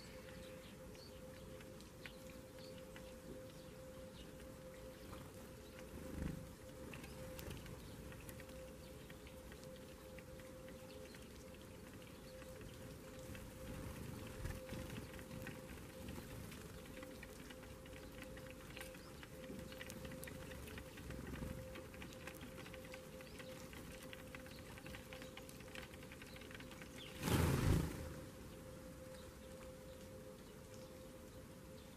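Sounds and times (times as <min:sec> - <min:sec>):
birds pecking light taps: 0:00.1 - 0:27.9.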